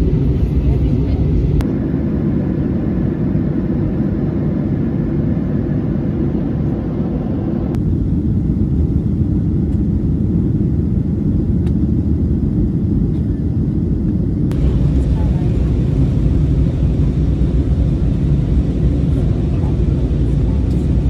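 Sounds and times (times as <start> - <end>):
airliner engine rumble in cabin: 0.0 - 21.0.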